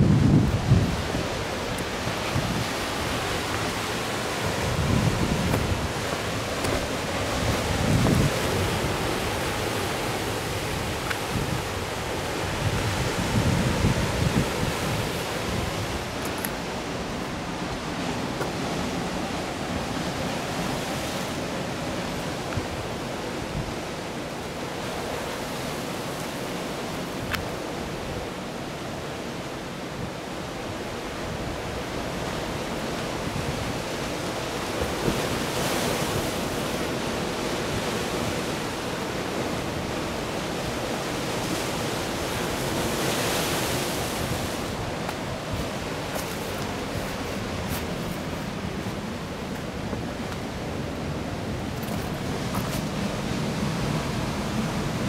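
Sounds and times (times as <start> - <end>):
waves breaking on rocky shore: 0.0 - 55.0.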